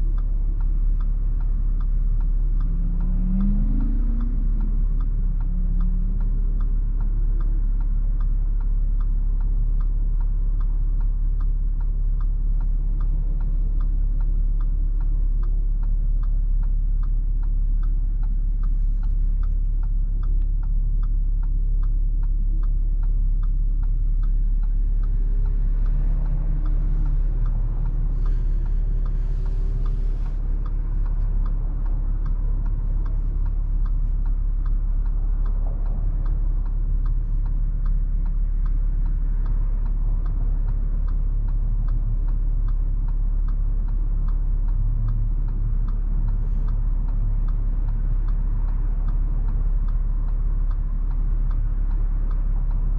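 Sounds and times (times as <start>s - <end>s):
car engine rumble in cabin: 0.0s - 52.9s
turn signal relay ticking: 0.0s - 52.9s.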